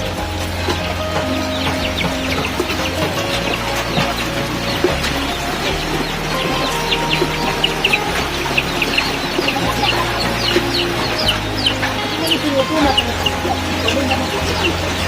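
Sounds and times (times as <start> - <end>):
background music with bass: 0.0 - 15.0
chickens clucking: 0.0 - 15.0
high peeping calls: 0.1 - 15.0.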